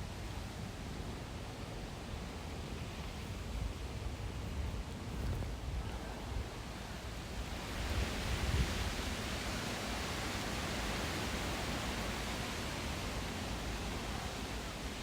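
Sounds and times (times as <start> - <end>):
rushing hiss of outdoor noise: 0.0 - 15.0.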